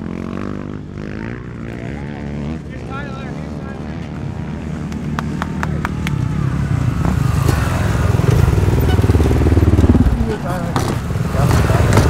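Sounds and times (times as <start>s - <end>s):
dirt bike engines rumbling: 0.0s - 12.0s.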